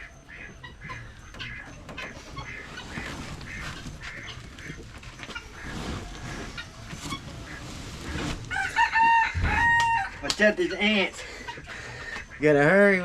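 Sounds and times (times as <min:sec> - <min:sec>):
rustling: 0:00.0 - 0:10.6
chickens clucking and squawking: 0:00.0 - 0:13.0.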